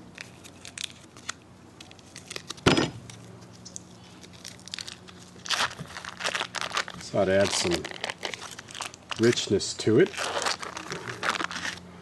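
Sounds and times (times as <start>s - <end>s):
foil wrapper crinkling: 0.2s - 2.6s, 3.7s - 11.8s.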